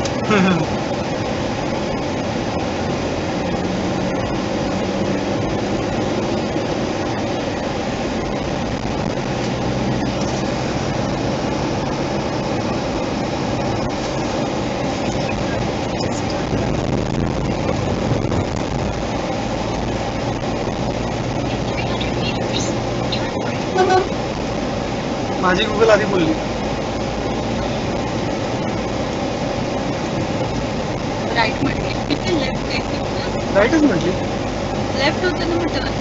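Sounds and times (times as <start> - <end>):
low engine hum: 0.0 - 36.0
road and tyre noise: 0.0 - 36.0.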